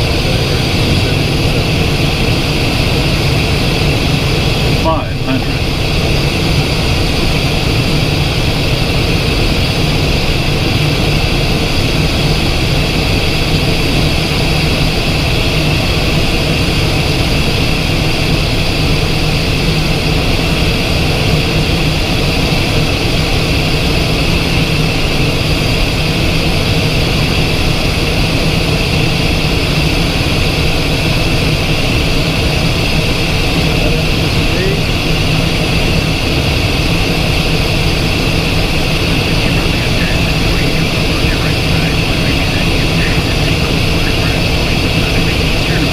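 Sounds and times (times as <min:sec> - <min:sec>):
jet engines whining and rumbling: 0:00.0 - 0:45.9.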